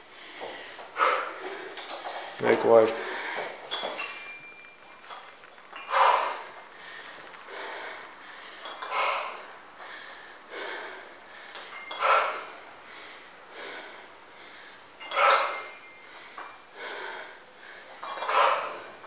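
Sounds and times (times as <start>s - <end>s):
woman breathing hard: 0.0s - 1.9s, 3.0s - 4.4s, 5.8s - 19.0s.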